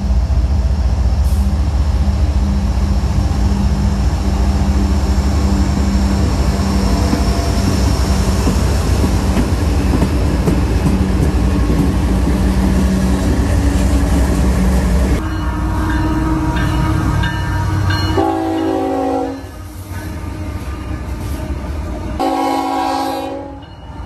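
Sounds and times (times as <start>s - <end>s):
locomotive engines droning: 0.0s - 24.0s
train rumbling on rails: 0.0s - 24.0s.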